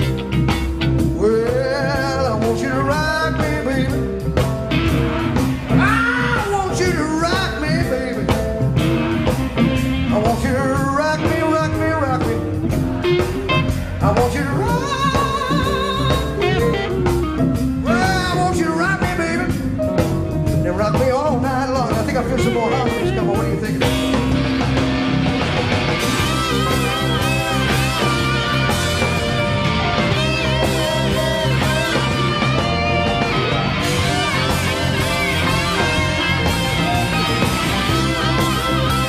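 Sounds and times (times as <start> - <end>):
lead guitar bending notes: 0.0 - 20.6, 22.2 - 39.0
rock band playing: 0.0 - 39.0.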